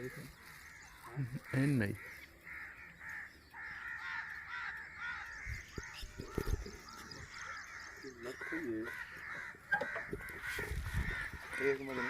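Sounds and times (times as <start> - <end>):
birds calling in chorus: 0.0 - 12.0.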